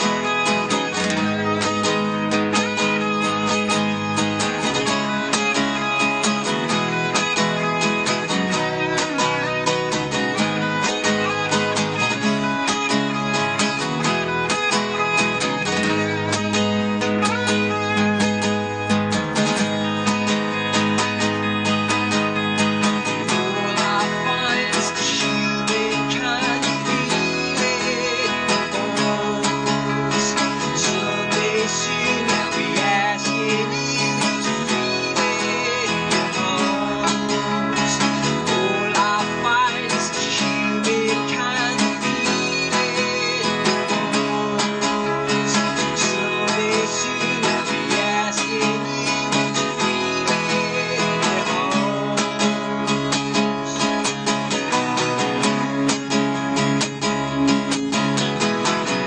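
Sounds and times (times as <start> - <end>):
electric bass: 0.0 - 59.0
electric guitar: 0.0 - 59.0
man singing: 0.0 - 59.0
strummed acoustic guitar: 0.0 - 59.0.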